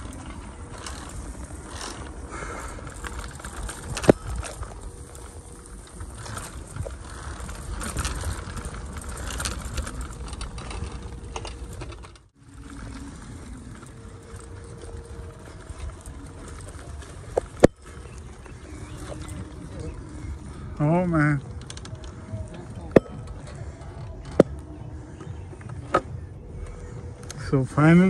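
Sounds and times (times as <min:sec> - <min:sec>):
bicycle rattling on dirt trail: 0:00.0 - 0:28.0.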